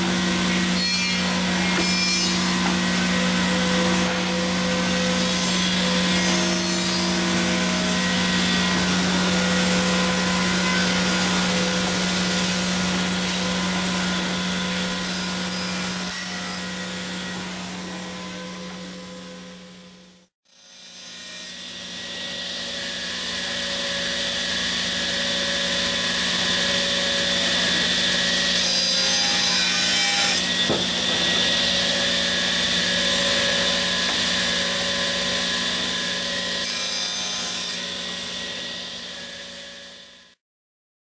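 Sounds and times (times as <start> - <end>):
circular saw cutting wood: 0.0 - 40.4.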